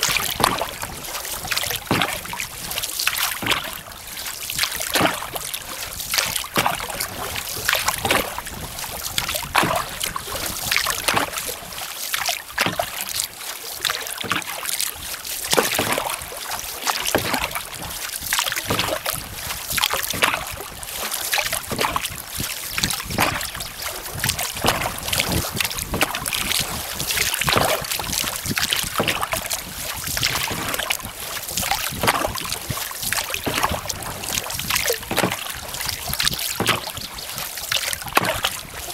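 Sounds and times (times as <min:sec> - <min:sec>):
canoe paddle strokes in water: 0:00.0 - 0:38.9.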